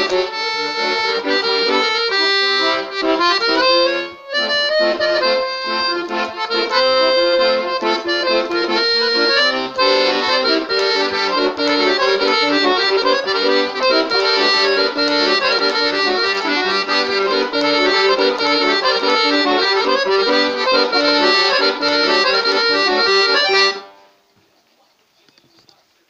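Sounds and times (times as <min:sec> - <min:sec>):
piano accordion playing a tune: 0:00.0 - 0:24.2.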